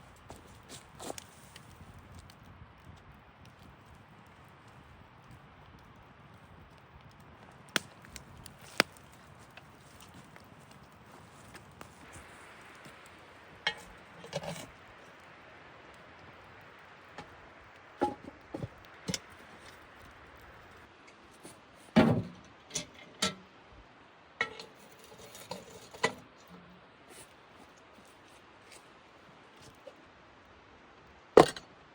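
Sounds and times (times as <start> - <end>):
faint steady hiss: 4.2 - 31.9.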